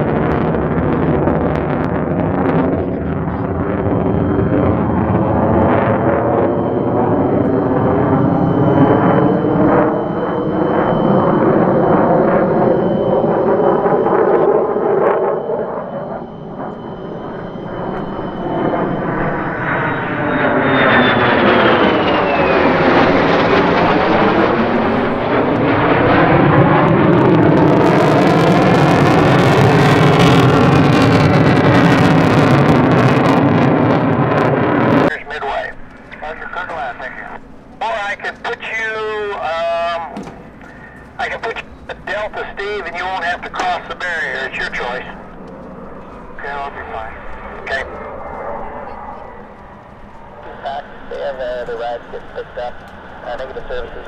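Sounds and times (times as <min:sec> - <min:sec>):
jet engine whine and crackle: 0:00.0 - 0:54.0.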